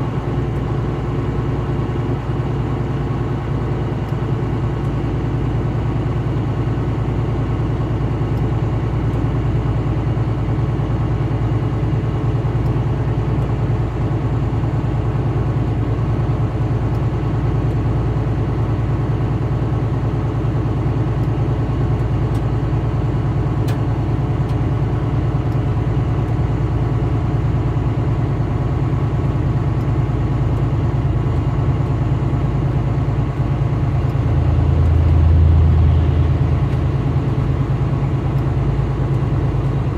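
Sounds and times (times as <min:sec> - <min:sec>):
vehicle engine and road drone: 0:00.0 - 0:39.9.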